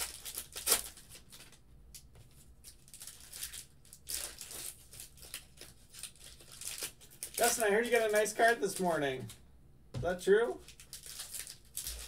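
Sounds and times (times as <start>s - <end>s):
foil wrapper crinkling and tearing: 0.0s - 9.1s, 10.6s - 12.0s.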